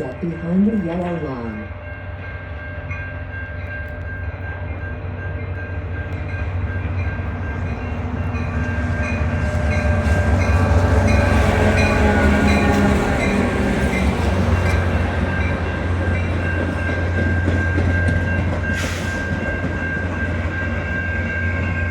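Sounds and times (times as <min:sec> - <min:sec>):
train rumble: 0:00.0 - 0:21.9.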